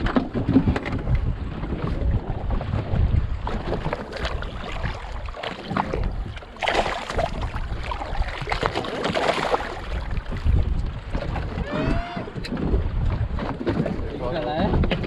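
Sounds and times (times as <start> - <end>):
water splashing and sloshing: 0.0 - 15.0
wind rumble on microphone: 0.0 - 15.0.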